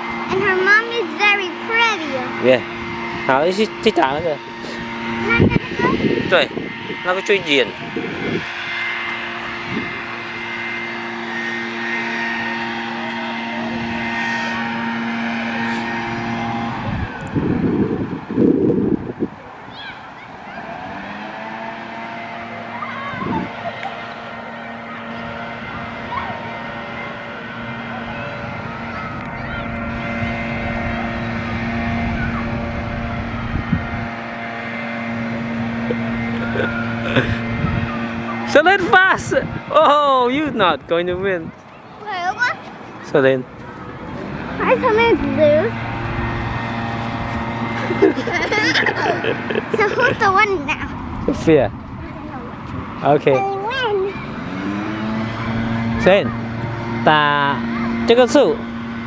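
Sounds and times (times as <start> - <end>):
motor humming: 0.0 - 59.0.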